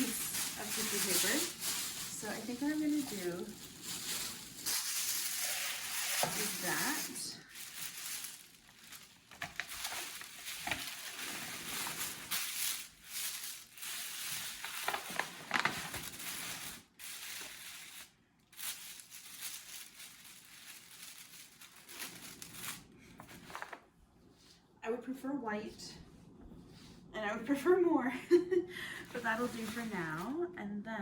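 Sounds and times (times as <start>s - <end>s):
tissue paper rustling and crinkling: 0.0s - 23.8s, 29.0s - 30.4s.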